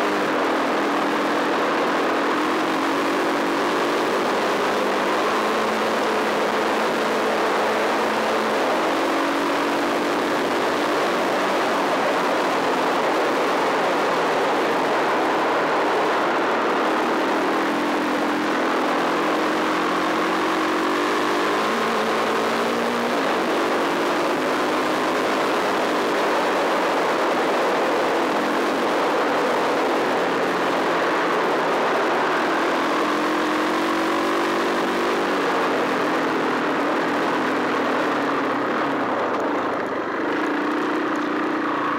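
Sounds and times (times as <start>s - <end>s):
motorcycle engine revving: 0.0s - 41.9s
steady rush of noise: 0.0s - 41.9s.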